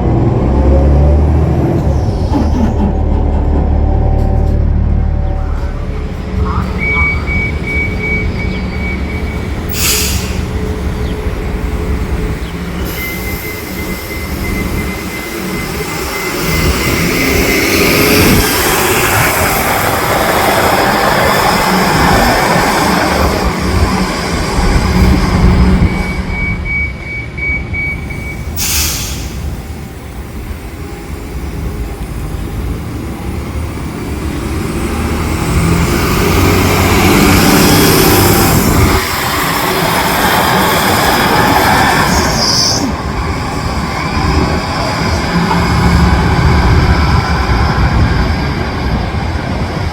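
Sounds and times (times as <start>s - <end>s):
bus engine and road noise: 0.0s - 49.9s.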